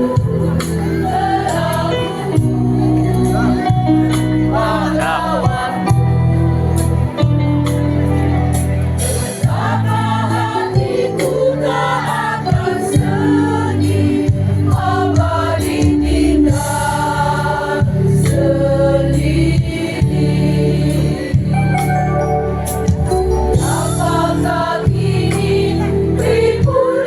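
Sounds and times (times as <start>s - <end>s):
choir singing: 0.0s - 6.9s, 9.3s - 21.6s, 23.2s - 27.0s
musical backing with low notes: 0.0s - 27.0s.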